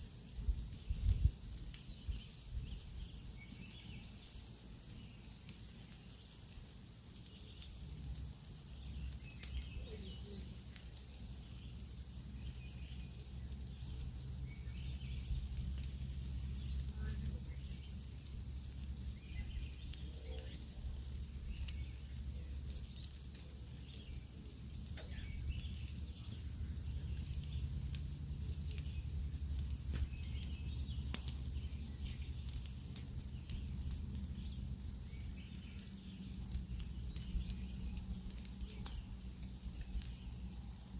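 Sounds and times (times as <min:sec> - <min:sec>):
campfire crackling and popping: 0:00.0 - 0:40.9
faint birds chirping: 0:00.0 - 0:40.9
low steady rumble: 0:00.0 - 0:40.9.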